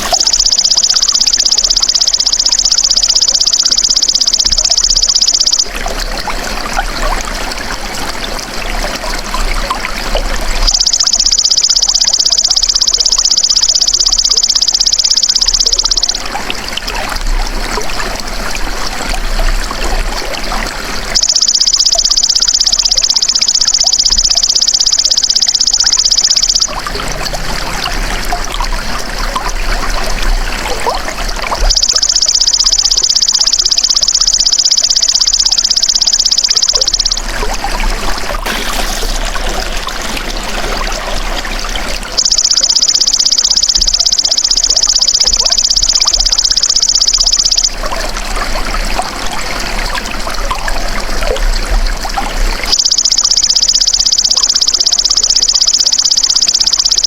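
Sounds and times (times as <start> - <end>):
running water trickling: 0.0 - 57.0.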